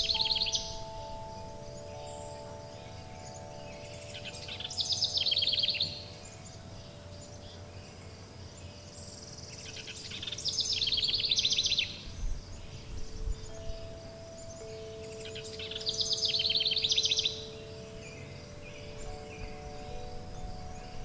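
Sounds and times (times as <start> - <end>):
soft background hiss: 0.0 - 21.0
songbird trilling: 0.0 - 21.0
wind chimes ringing: 0.0 - 21.0.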